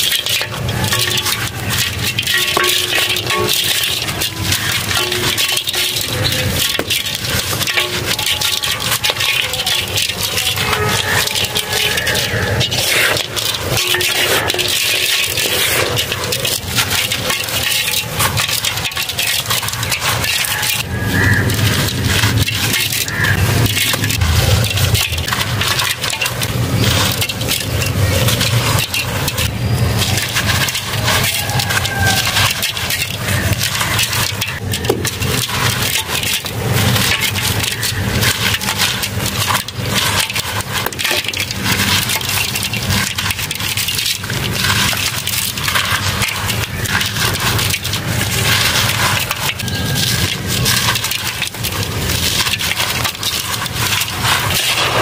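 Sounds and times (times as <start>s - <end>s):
grains rattling into metal tub: 0.0s - 55.0s.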